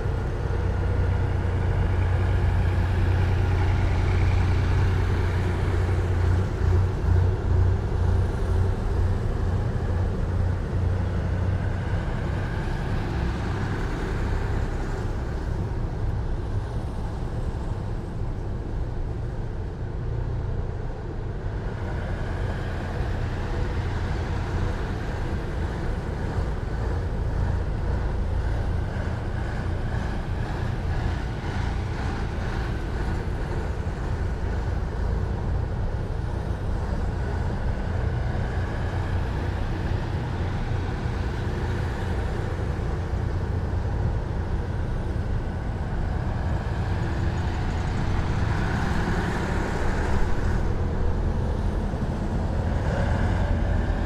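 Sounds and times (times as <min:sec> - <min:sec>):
heavy vehicles engine rumble: 0:00.0 - 0:54.0.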